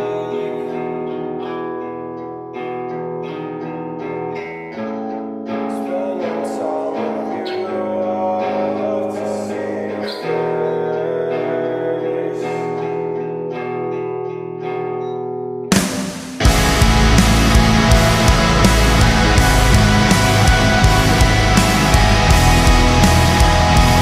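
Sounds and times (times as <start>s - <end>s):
guitar-led rock music: 0.0s - 24.0s.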